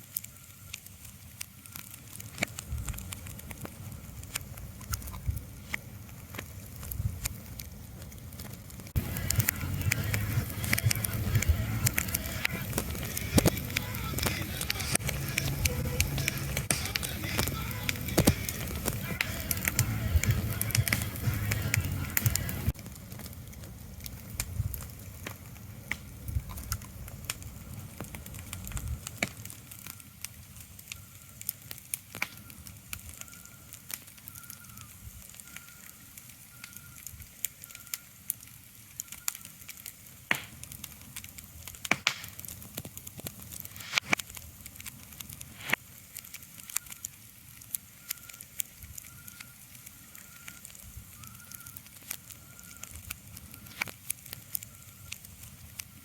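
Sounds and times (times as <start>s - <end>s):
crackling clicks and pops: 0.0s - 56.0s.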